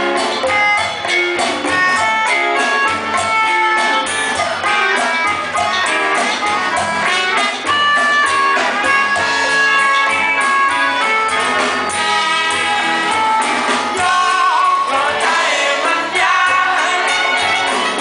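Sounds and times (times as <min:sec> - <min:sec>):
electric guitar: 0:00.0 - 0:18.0
live rock band: 0:00.0 - 0:18.0.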